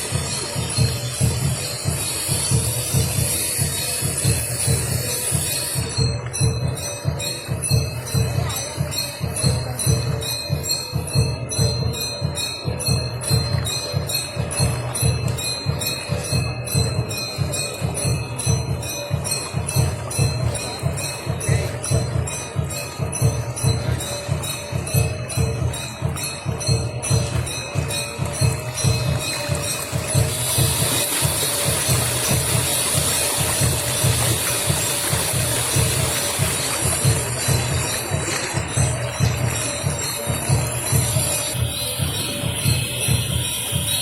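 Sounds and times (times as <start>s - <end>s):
jingling percussion: 0.0s - 44.0s
music with drum beat: 0.0s - 44.0s.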